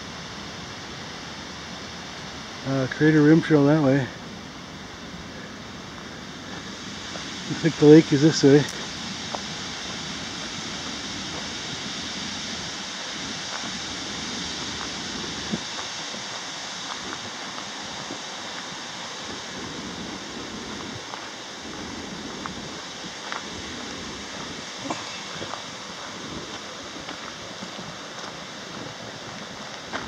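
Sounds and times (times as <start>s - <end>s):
flowing water: 0.0s - 30.0s
wind: 0.0s - 30.0s.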